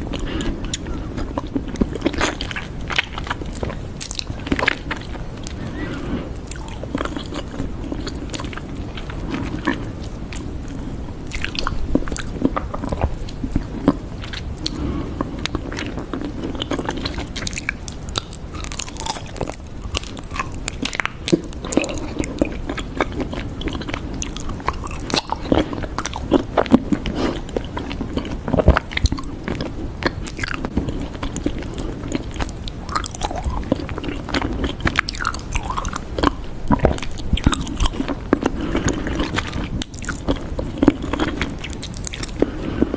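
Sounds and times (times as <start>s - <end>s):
crunching crackles and snaps: 0.0s - 42.9s.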